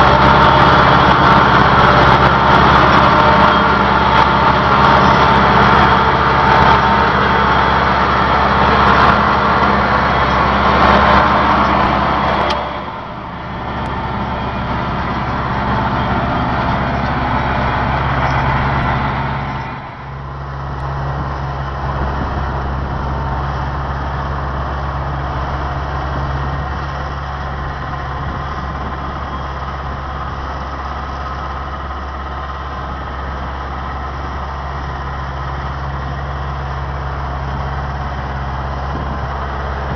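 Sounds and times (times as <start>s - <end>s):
machinery noise: 0.0s - 39.9s
tractor engine under load: 0.0s - 39.9s.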